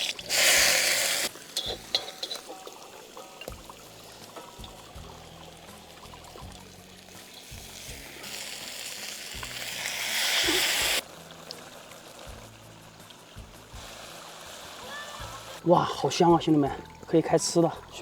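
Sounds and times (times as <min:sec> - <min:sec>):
fish sizzling in hot oil: 0:00.0 - 0:16.8
soft background music: 0:00.0 - 0:18.0.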